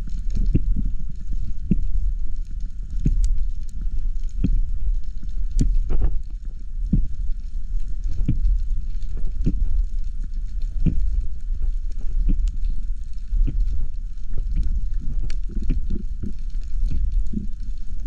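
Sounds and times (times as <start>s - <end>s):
water rumbling: 0.0s - 18.0s.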